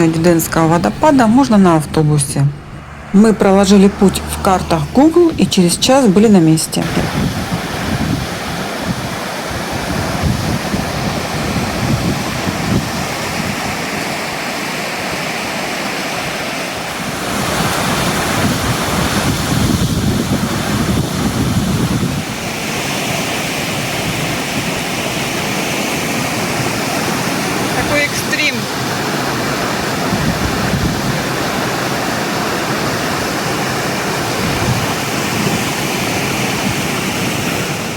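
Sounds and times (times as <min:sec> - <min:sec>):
wind buffeting microphone: 0:00.0 - 0:14.4, 0:15.9 - 0:37.9
waterfall rushing: 0:00.0 - 0:37.9.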